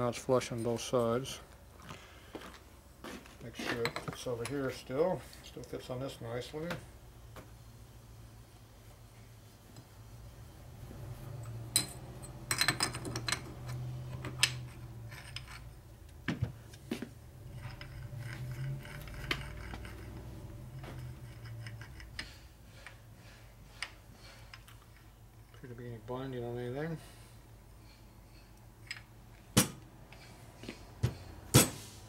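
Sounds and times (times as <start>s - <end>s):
low steady hum: 0.0s - 31.8s.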